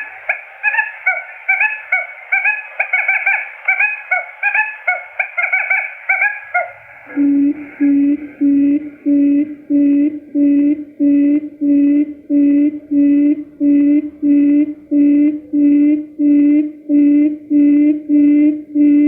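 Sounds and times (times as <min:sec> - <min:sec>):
low hooting notes: 0:00.0 - 0:19.0.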